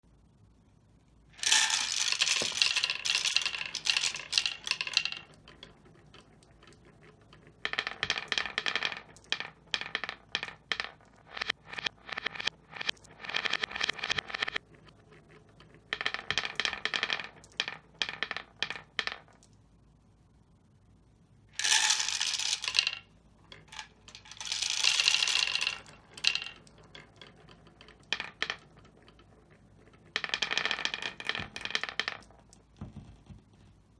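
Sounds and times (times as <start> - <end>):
marbles clattering down wooden run: 1.4 - 19.5, 21.6 - 33.1.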